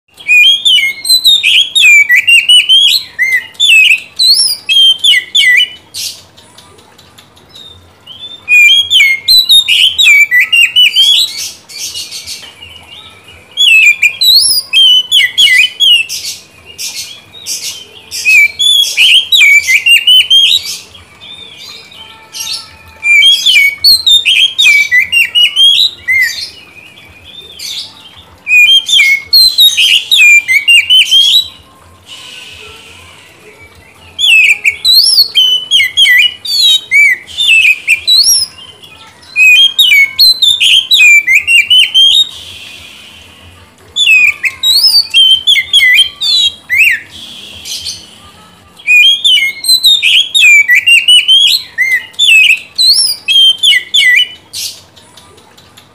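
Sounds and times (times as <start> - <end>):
bird singing whistled notes and trills: 0.1 - 55.0.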